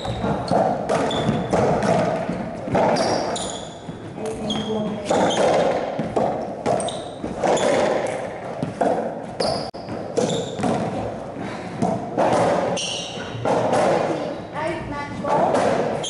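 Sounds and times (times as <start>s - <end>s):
ball thuds echoing in court: 0.0s - 14.3s, 15.2s - 16.0s
sneakers squeaking on floor: 0.0s - 14.4s.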